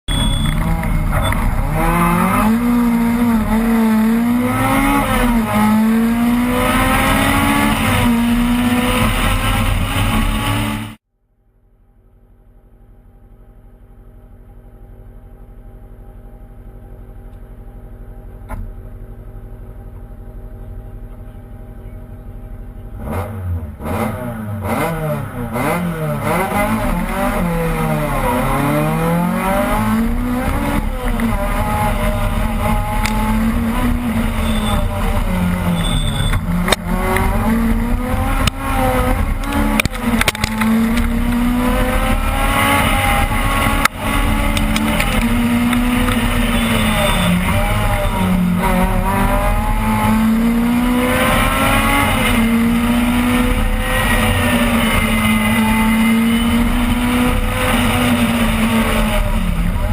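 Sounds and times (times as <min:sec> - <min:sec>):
rally car engine revving: 0:00.1 - 0:11.0, 0:22.7 - 0:59.9.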